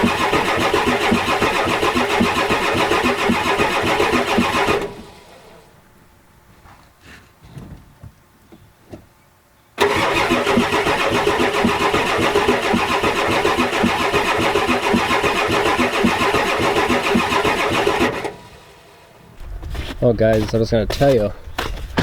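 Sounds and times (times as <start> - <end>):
starter cranking diesel engine: 0.0 - 5.7, 9.8 - 22.0.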